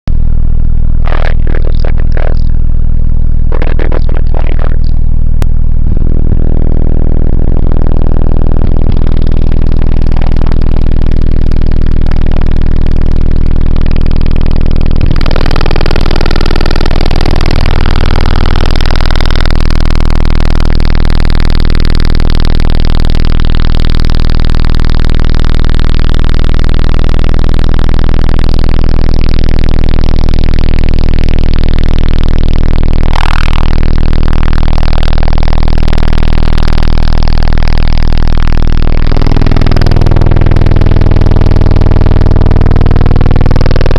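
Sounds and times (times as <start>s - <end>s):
distorted deep bass tone: 0.0s - 43.9s.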